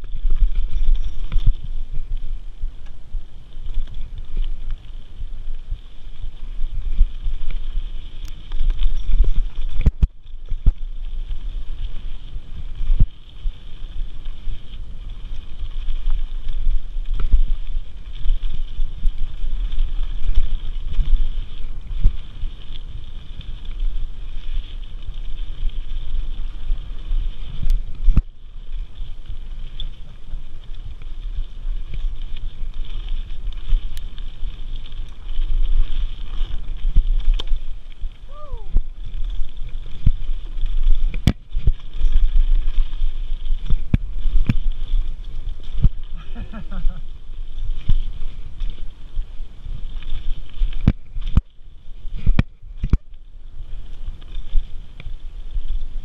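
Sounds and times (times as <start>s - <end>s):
rumble of bike tyres: 0.0s - 56.0s.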